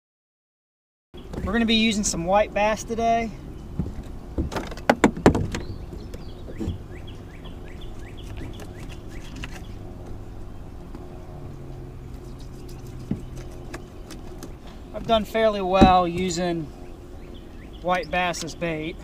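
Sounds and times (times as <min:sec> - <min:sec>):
bird chirping: 0:01.2 - 0:19.0
low hum: 0:01.2 - 0:19.0.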